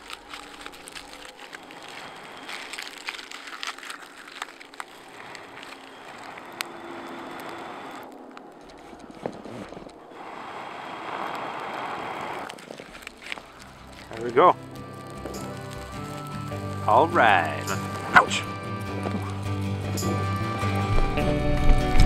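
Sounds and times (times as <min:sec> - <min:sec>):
dry bark crackling: 0:00.0 - 0:22.0.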